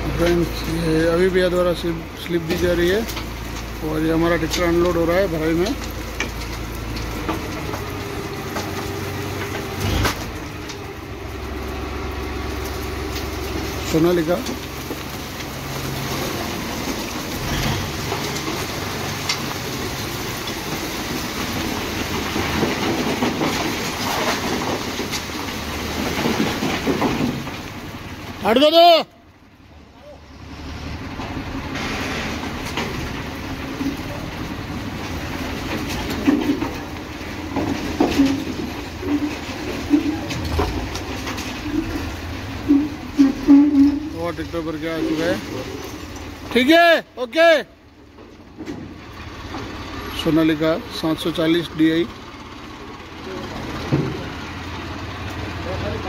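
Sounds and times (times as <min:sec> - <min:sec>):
soil and stones tumbling: 0:00.0 - 0:29.0, 0:30.4 - 0:56.0
tractor engine running: 0:00.0 - 0:56.0.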